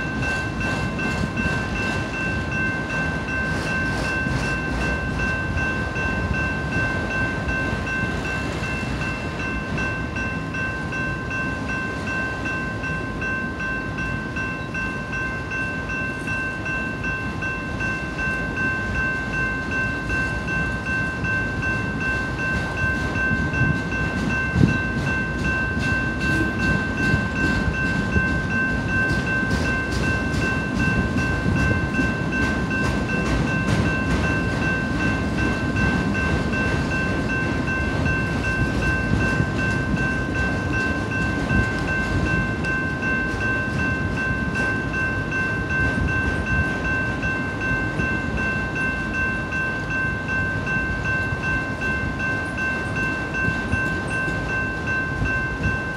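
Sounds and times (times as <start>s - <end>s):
crossing warning bell ringing: 0.0s - 55.9s
freight train rumble: 0.0s - 55.9s.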